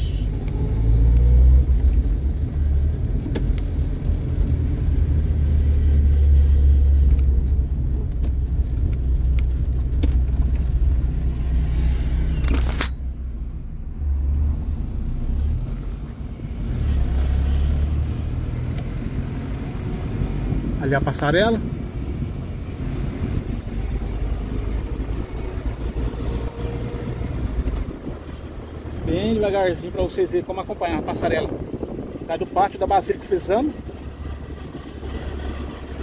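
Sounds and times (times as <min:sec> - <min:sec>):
car engine and tyre rumble: 0:00.0 - 0:36.0.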